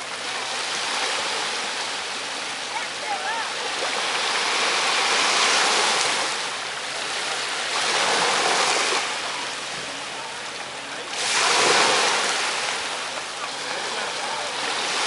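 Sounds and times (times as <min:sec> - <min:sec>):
small waves breaking on shore: 0:00.0 - 0:15.0.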